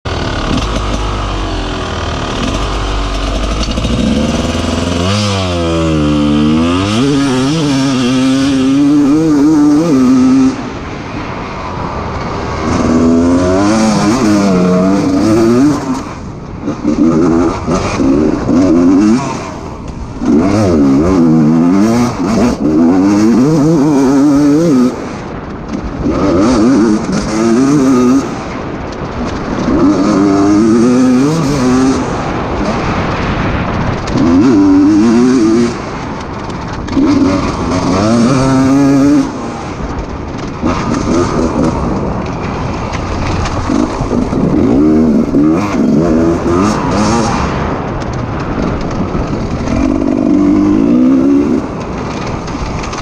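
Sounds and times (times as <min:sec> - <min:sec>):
two-stroke motorbike engine revving: 0:00.1 - 0:10.8, 0:11.8 - 0:53.0.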